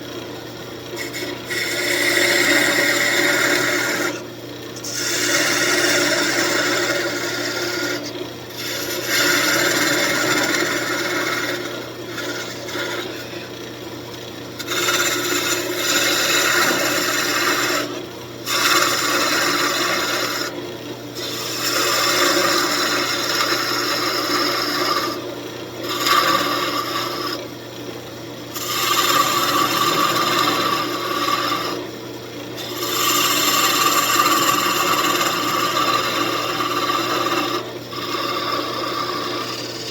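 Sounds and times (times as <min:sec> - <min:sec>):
lathe motor hum: 0:00.0 - 0:39.9
tool scraping spinning wood: 0:00.8 - 0:27.6, 0:28.4 - 0:39.9.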